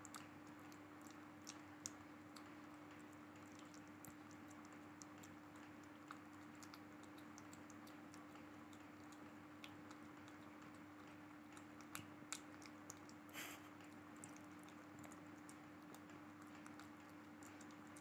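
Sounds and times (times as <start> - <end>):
kitten chewing and licking: 0.0 - 18.0.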